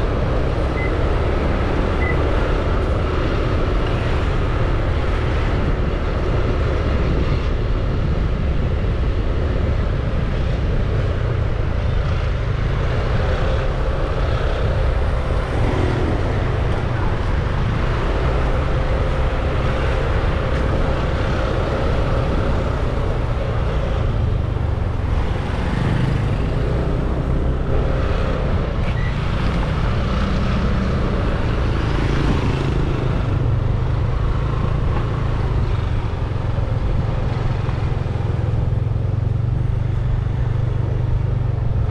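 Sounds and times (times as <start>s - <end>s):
passing vehicles: 0.0s - 41.9s
wind rumble on microphone: 0.0s - 41.9s.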